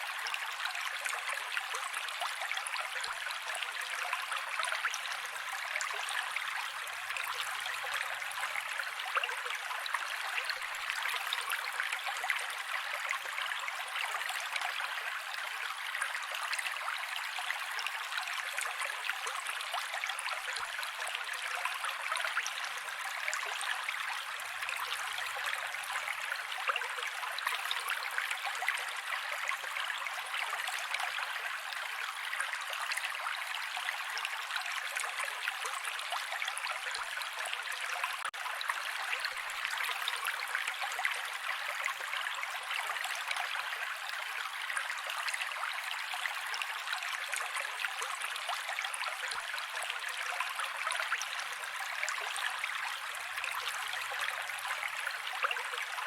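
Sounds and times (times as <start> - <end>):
creek water flowing: 0.0 - 56.0.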